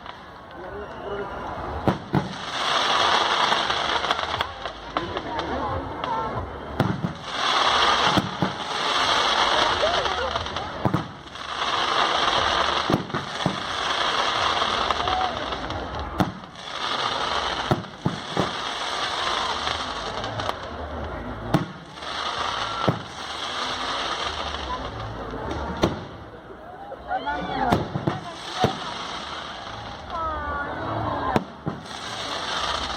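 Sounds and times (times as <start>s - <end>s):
fireworks hissing: 0.0s - 32.9s
sharp firework bangs: 1.7s - 6.2s, 6.8s - 20.6s, 21.4s - 24.8s, 25.5s - 26.4s, 27.6s - 30.1s, 31.3s - 32.9s.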